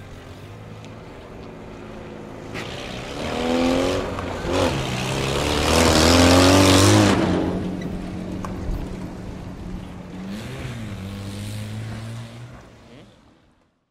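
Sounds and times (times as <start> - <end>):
vehicles accelerating: 0.0 - 13.4.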